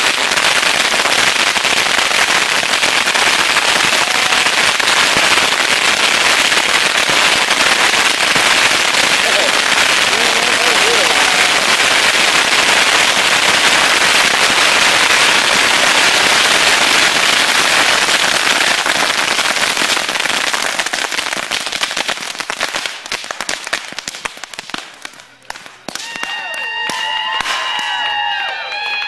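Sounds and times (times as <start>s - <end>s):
bottle rockets crackling and popping: 0.0s - 28.0s.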